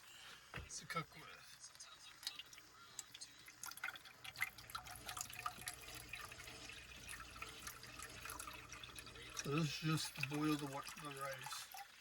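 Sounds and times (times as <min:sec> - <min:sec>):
water glugging and splashing into pot: 0:02.2 - 0:12.0.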